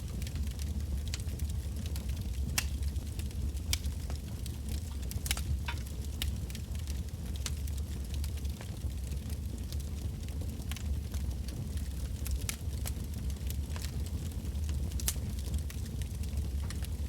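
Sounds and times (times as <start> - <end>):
bonfire crackling and popping: 0.0 - 17.0
low rumble of flames: 0.0 - 17.0.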